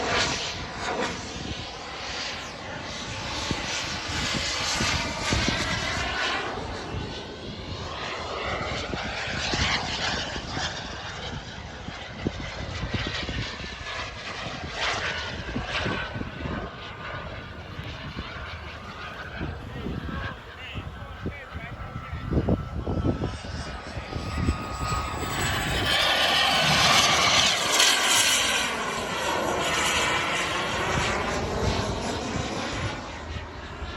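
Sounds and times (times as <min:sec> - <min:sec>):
model jet turbine whine: 0:00.0 - 0:33.9
wind on microphone: 0:00.0 - 0:33.9.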